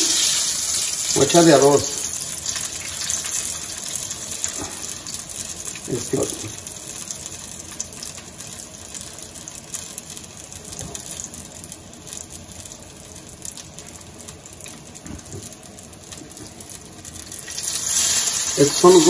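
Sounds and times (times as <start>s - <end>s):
frying sizzle with crackling: 0.0s - 19.0s.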